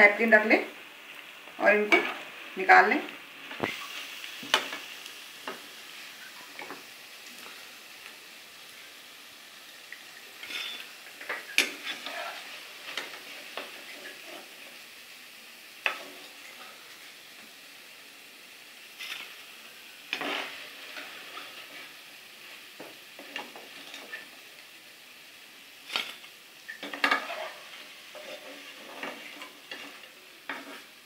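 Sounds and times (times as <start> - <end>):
battered pieces deep-frying in oil: 0.0 - 31.0.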